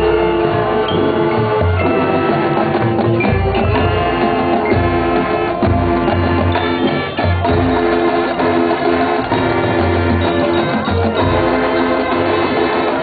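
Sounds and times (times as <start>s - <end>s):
brass holding chords: 0.0s - 13.0s
drumline: 0.0s - 13.0s.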